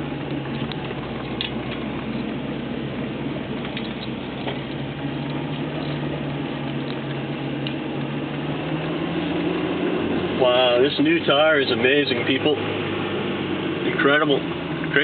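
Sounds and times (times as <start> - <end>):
car engine hum: 0.0 - 15.0
road and tyre noise: 0.0 - 15.0.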